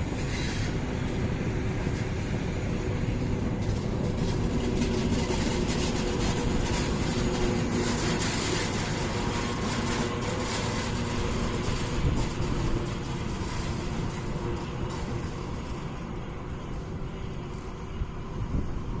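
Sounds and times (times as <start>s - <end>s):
locomotive engine hum: 0.0s - 19.0s
train rumbling on rails: 0.0s - 19.0s.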